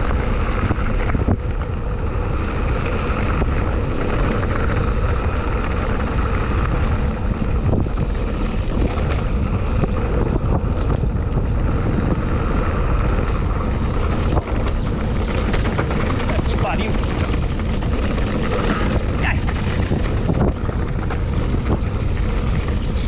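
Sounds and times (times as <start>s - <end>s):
bike knocks and rattles: 0.0s - 23.0s
bike tyres rumbling over dirt: 0.0s - 23.0s
wind buffeting microphone: 0.0s - 23.0s.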